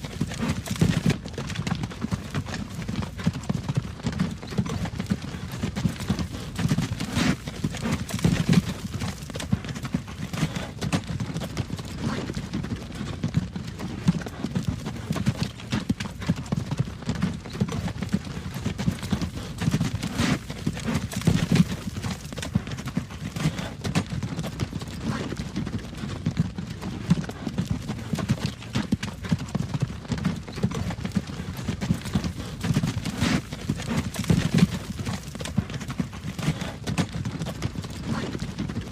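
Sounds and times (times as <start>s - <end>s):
horse hooves clip-clopping: 0.0s - 38.9s.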